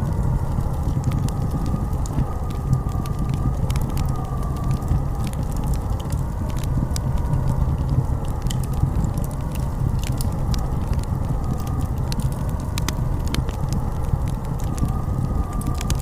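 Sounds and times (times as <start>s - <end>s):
blizzard wind howling: 0.0s - 16.0s
sharp crackles: 0.0s - 16.0s.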